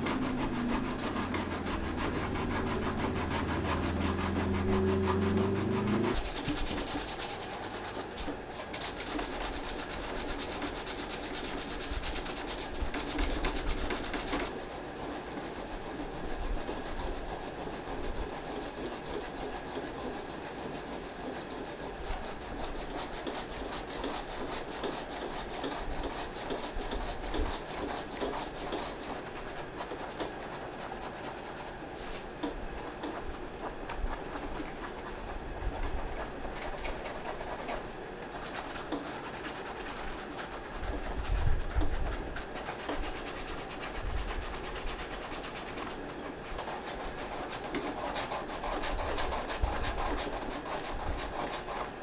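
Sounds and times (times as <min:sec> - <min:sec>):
eraser scrubbing suede: 0:00.0 - 0:32.2, 0:32.8 - 0:52.0.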